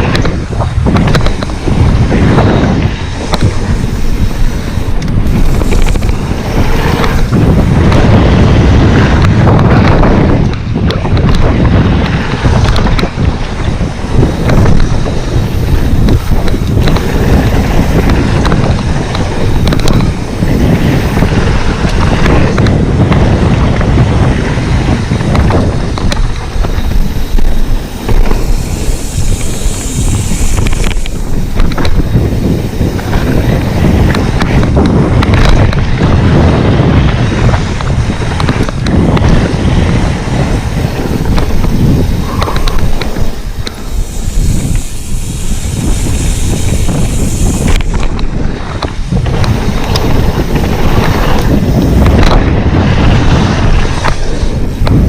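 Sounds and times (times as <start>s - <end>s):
heavy low rumble: 0.0s - 55.0s
wind buffeting microphone: 0.0s - 55.0s.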